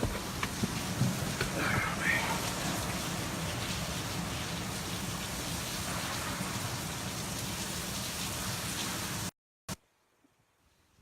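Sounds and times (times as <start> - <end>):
heavy rain and wind: 0.0 - 9.4.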